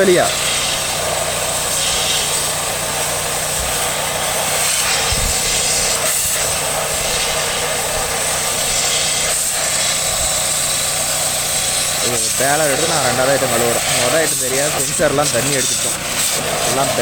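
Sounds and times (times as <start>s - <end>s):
high-pressure water jet spraying: 0.0s - 17.0s
motor running: 0.0s - 17.0s.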